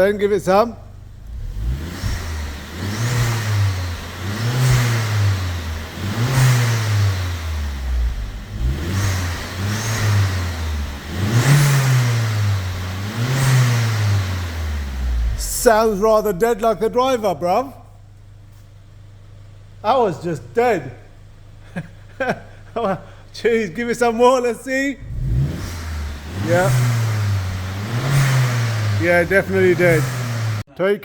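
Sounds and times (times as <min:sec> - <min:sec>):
car engine revving: 0:00.0 - 0:17.8, 0:18.5 - 0:30.7.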